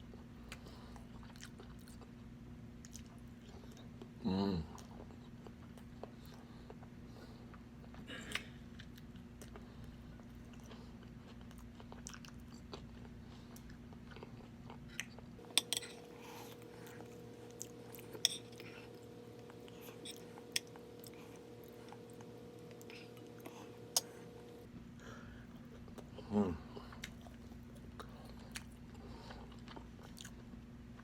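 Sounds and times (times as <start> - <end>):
person chewing: 0.1 - 2.2, 4.7 - 24.7, 25.4 - 31.0.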